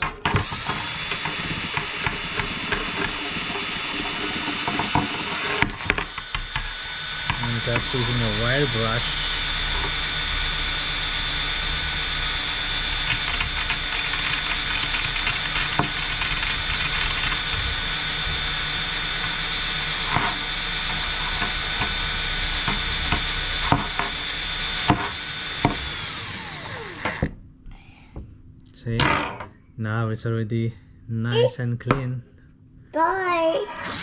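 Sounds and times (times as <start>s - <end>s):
wire brush motor whining: 0.0s - 27.4s, 33.6s - 34.0s.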